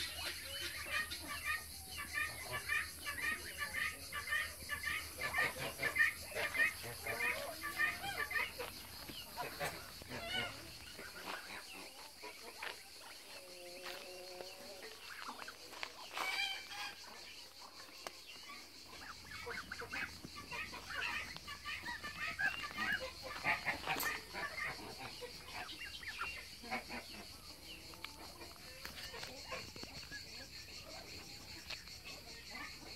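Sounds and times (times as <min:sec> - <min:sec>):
young geese honking: 0:00.0 - 0:30.8
ducklings and goslings peeping: 0:00.0 - 0:32.9.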